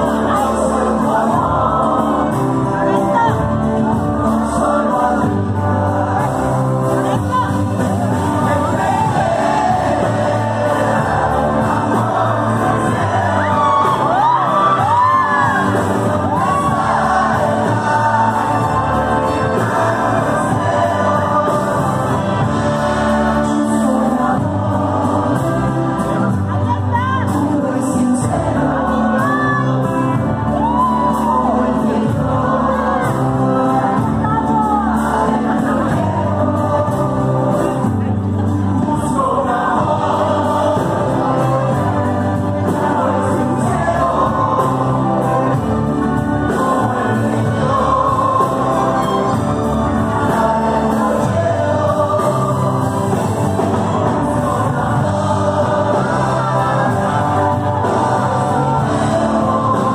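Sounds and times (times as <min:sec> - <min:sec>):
latin pop band playing: 0:00.0 - 0:59.9
man singing into microphone: 0:00.0 - 0:59.9.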